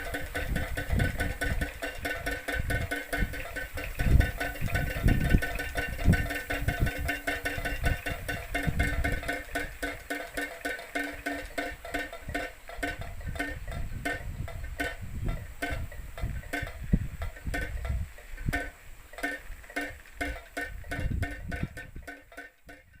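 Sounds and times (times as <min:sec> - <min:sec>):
wind buffeting microphone: 0:00.0 - 0:23.0
windmill knocking on plastic pipe: 0:00.0 - 0:23.0.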